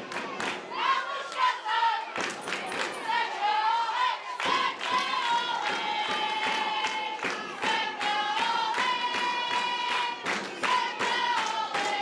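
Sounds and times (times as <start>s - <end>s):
crowd singing a chant: 0.0s - 12.0s
rhythmic clapping: 0.0s - 12.0s.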